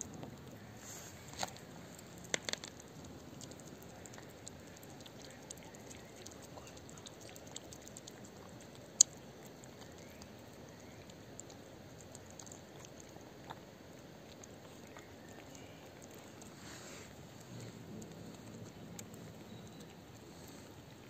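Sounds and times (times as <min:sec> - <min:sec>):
cats chewing wet food: 0:00.0 - 0:21.0.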